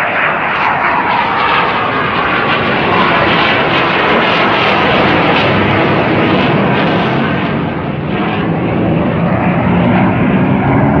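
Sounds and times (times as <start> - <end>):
aircraft engine overhead: 0.0 - 11.0.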